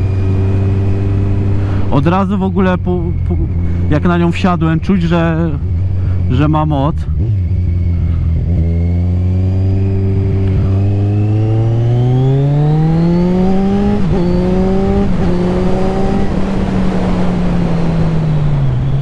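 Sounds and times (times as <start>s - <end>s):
motorcycle engine accelerating: 0.0s - 19.0s
wind rushing over microphone: 0.0s - 19.0s.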